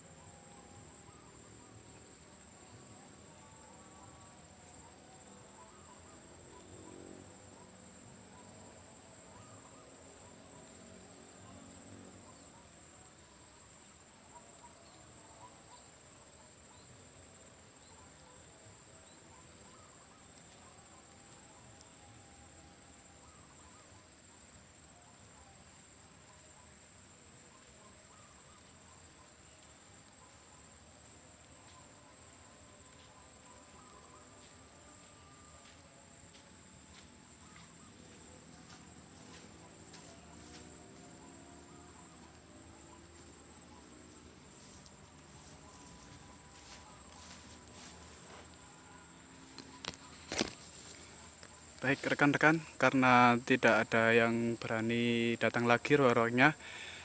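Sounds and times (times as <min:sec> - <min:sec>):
high-pitched insect chorus: 0:00.0 - 0:57.0
outdoor background noise: 0:00.0 - 0:57.0.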